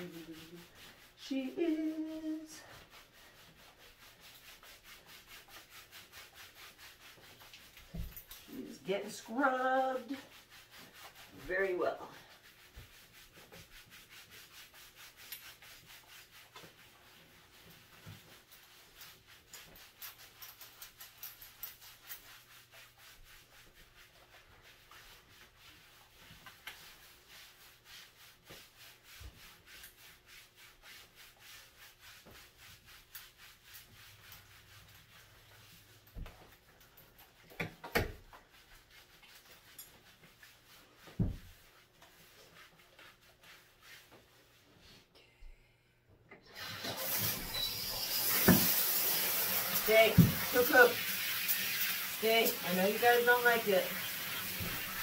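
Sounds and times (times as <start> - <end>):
hands scrubbing wet dog fur: 0.0 - 45.1, 46.5 - 55.0.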